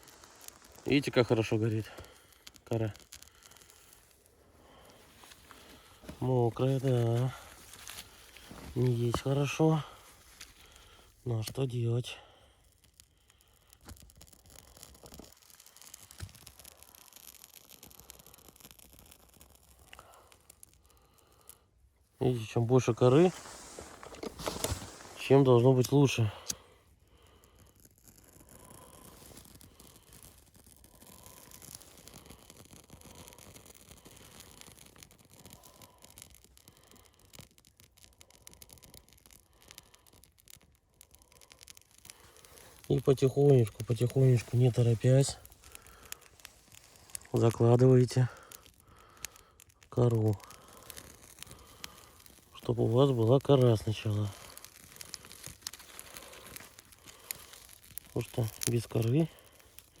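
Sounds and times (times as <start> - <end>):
small fire crackling: 0.0 - 60.0
twigs snapping in fire: 0.0 - 60.0.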